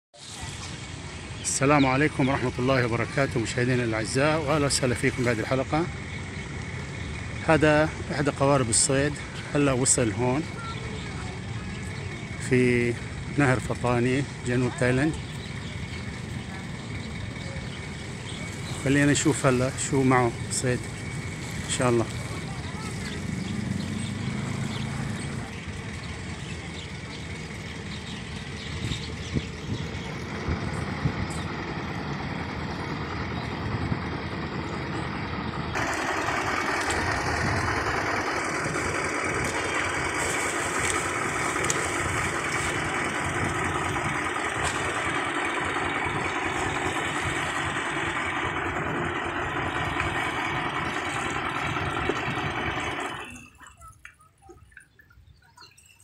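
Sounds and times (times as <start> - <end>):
boat engine idling: 0.2 - 56.0.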